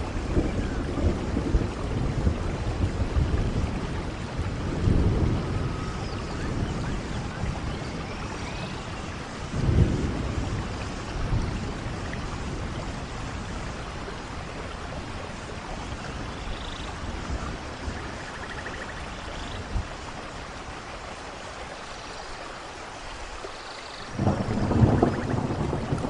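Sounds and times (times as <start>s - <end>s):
rain on leaves: 0.0s - 26.0s.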